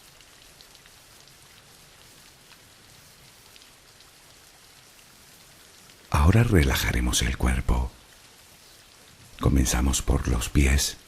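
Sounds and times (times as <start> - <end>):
soft rain falling: 0.0 - 11.0.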